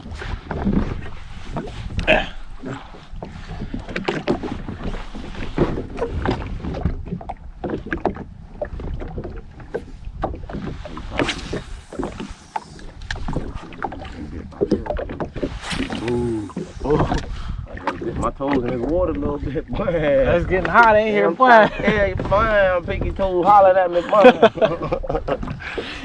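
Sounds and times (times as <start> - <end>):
wind rumble on microphone: 0.0 - 23.6, 24.3 - 26.0
small waves slapping a hull: 0.0 - 26.0.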